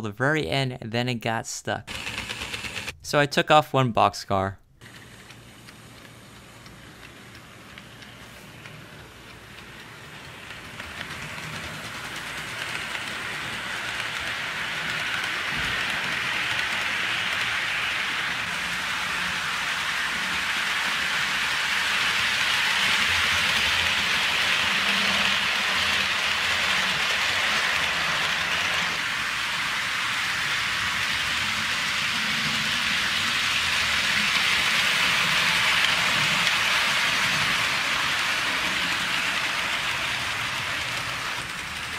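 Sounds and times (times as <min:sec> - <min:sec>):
model train running on track: 0:01.9 - 0:02.9, 0:04.8 - 0:41.9.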